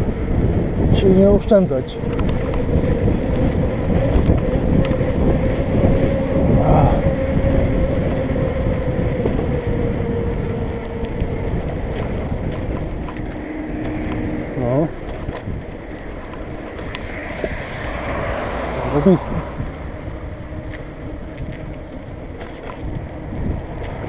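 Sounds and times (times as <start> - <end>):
electric bike motor whining: 0.0 - 24.0
wind buffeting microphone: 0.0 - 24.0.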